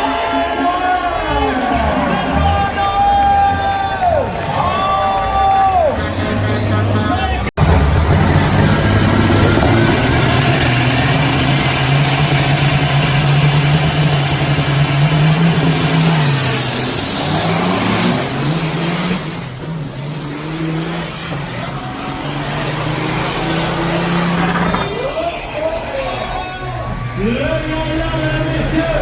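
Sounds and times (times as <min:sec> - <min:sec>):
diesel truck engine under load: 0:00.0 - 0:29.0.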